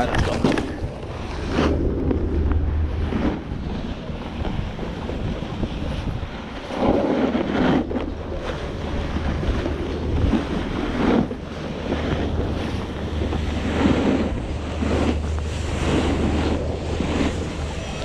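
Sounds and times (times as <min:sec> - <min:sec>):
snowboard scraping over snow: 0:00.0 - 0:18.0
wind buffeting microphone: 0:00.0 - 0:18.0.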